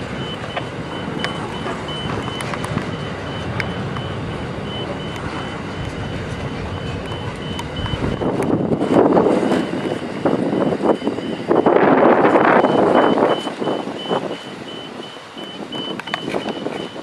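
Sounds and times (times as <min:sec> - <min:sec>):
freight wagons rumbling: 0:00.0 - 0:17.0.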